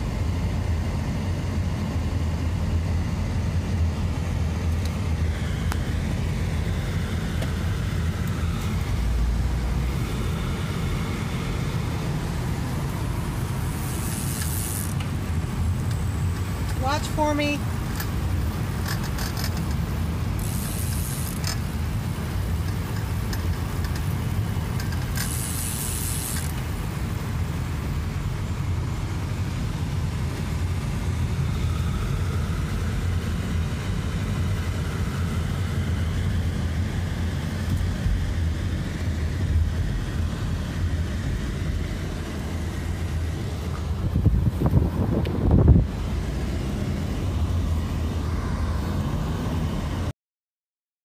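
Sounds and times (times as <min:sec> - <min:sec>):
car driving rumble: 0:00.0 - 0:50.1.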